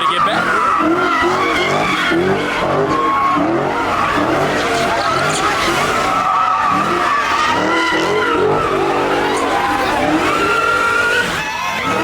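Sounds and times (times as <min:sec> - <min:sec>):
car engine running hard: 0:00.0 - 0:12.0
car tyres squealing: 0:00.0 - 0:12.0.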